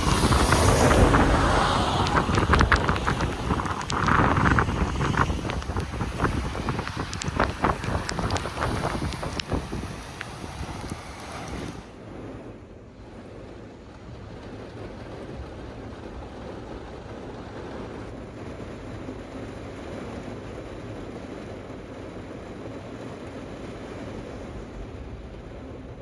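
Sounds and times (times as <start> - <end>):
rainstorm: 0.0 - 26.0
wind: 0.0 - 26.0.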